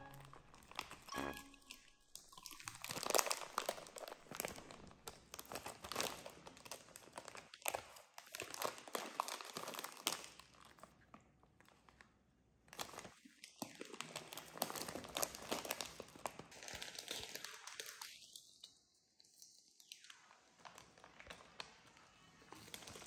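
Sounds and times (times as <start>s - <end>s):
plastic packet crinkling: 0.0s - 10.9s, 12.7s - 18.5s, 20.6s - 23.0s.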